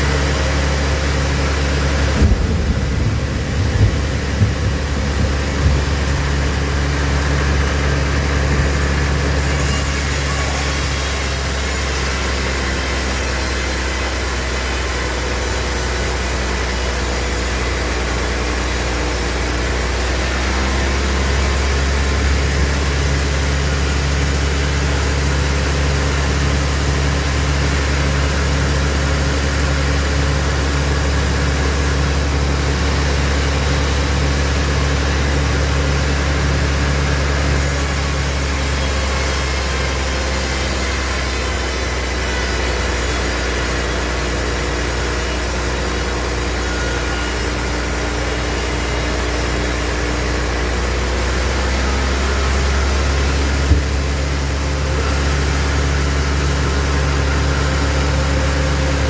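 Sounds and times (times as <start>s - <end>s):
sawmill machine hum: 0.0s - 59.0s.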